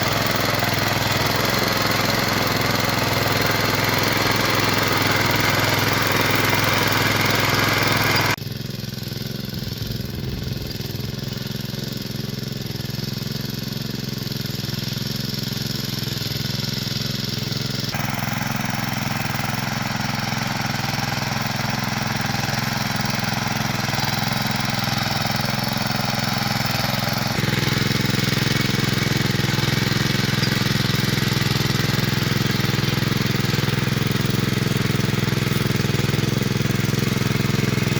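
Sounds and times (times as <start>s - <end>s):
cultivator engine running: 0.0s - 37.9s.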